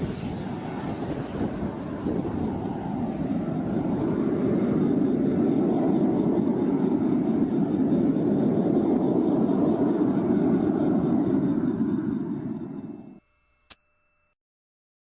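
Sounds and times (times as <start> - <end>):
aircraft engine drone: 0.0 - 13.7.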